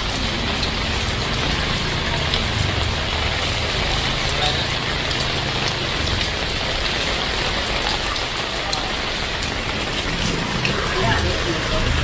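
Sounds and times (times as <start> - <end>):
heavy rain hissing: 0.0 - 12.0
raindrops ticking: 0.0 - 12.0.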